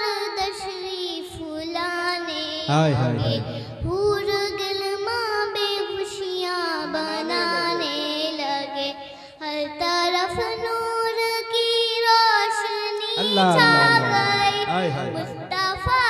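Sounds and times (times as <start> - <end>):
boy singing into a microphone: 0.0 - 16.0.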